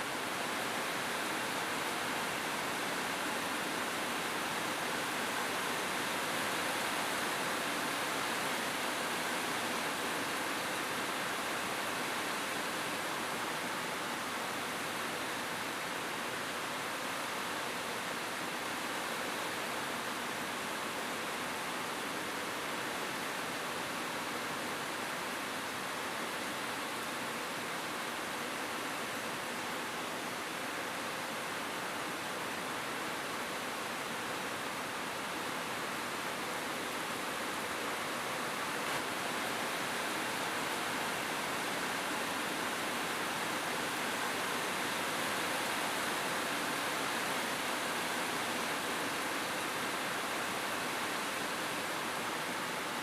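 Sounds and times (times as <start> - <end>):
rain on a roof: 0.0 - 53.0.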